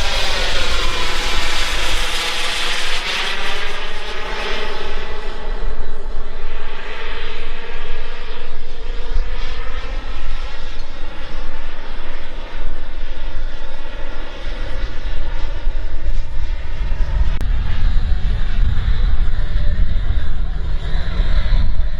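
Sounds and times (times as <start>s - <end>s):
model jet turbine rush and whine: 0.0s - 21.9s
wind rumble on microphone: 0.0s - 21.9s.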